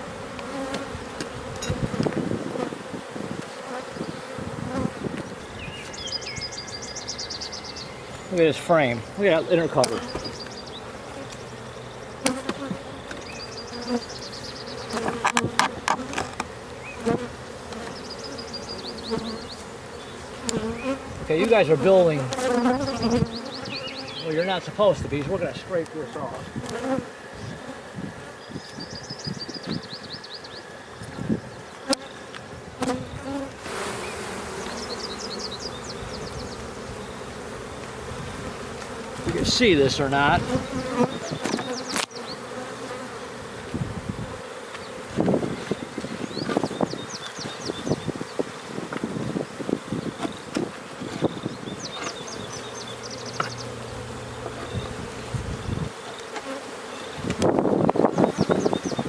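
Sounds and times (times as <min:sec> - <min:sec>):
honey bees buzzing: 0:00.0 - 0:59.0.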